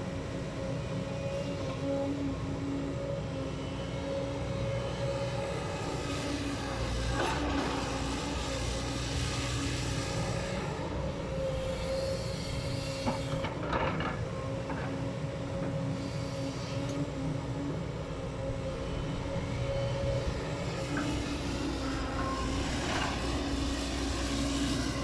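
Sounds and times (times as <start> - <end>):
excavator diesel engine: 0.0 - 25.0
hydraulic whine: 0.5 - 25.0.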